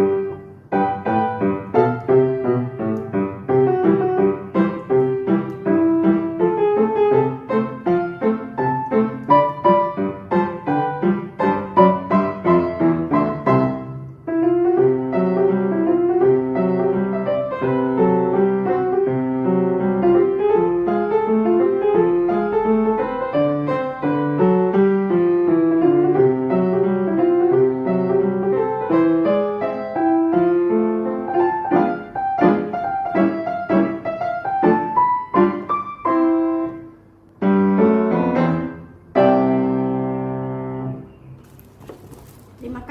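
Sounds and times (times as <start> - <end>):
solo piano melody: 0.0 - 42.9.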